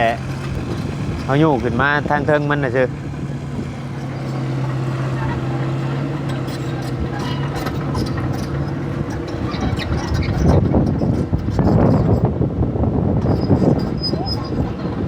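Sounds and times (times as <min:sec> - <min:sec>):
vehicle engine idling: 0:00.0 - 0:12.2.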